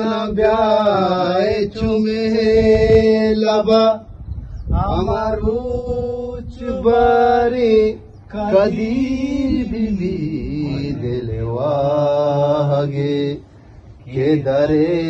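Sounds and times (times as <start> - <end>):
man singing chant-like melody: 0.0 - 4.1, 4.7 - 15.0.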